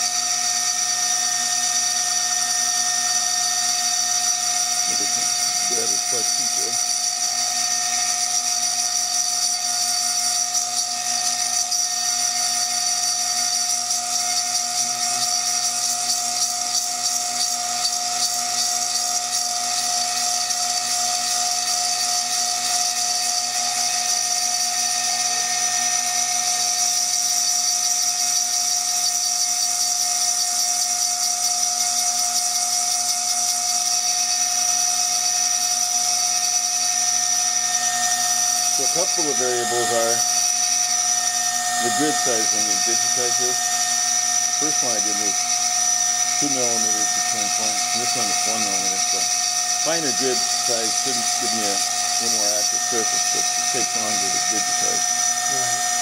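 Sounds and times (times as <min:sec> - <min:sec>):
milling spindle whining: 0:00.0 - 0:56.0.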